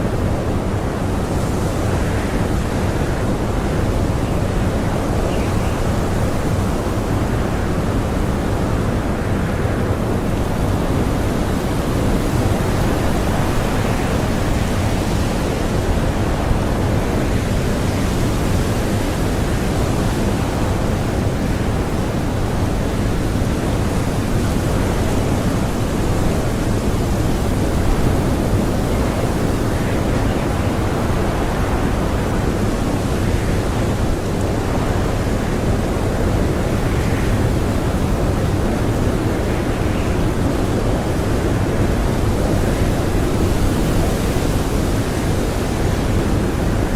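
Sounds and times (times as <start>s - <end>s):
blizzard wind blowing: 0.0s - 46.9s.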